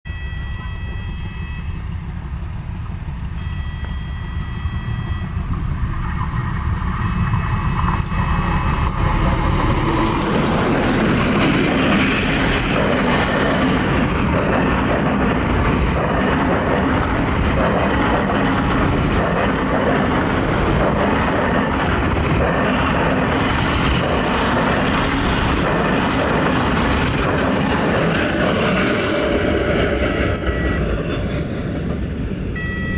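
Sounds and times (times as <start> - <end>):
train rumbling and rattling: 0.2 - 32.9.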